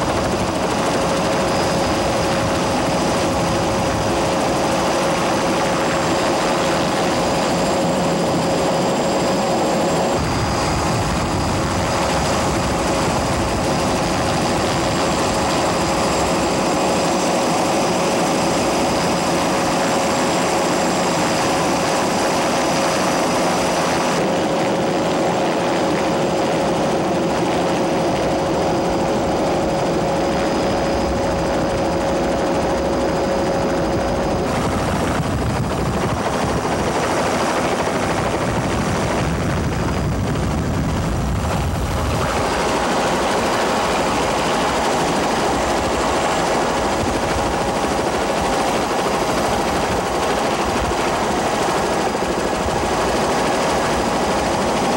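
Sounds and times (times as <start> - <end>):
helicopter rotor and engine: 0.0 - 54.9.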